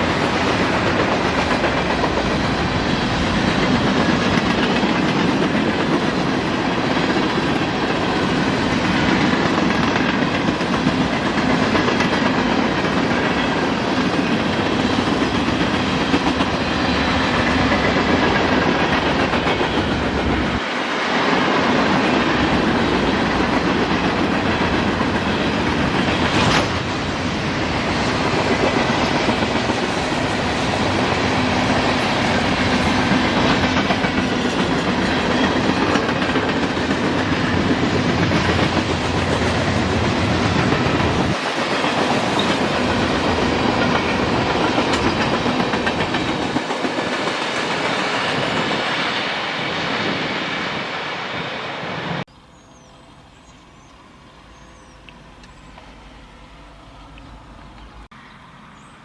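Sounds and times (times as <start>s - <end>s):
freight train cars rolling: 0.0s - 58.8s.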